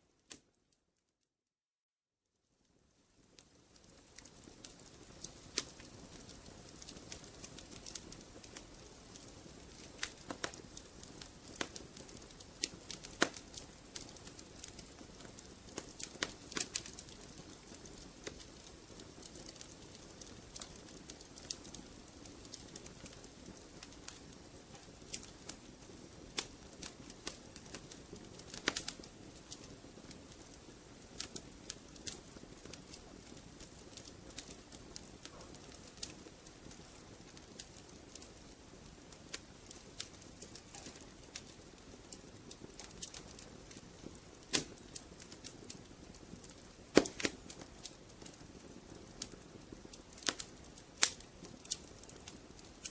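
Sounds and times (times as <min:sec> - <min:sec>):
wood fire crackling: 0:00.1 - 0:00.7, 0:02.6 - 0:52.9
fire pops and snaps: 0:00.3 - 0:00.5, 0:03.2 - 0:52.9.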